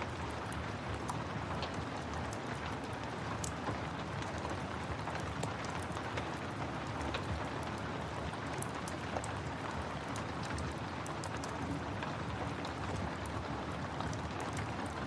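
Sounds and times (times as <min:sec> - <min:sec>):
steady rain: 0:00.0 - 0:15.0
wood fire crackling and popping: 0:00.1 - 0:15.0.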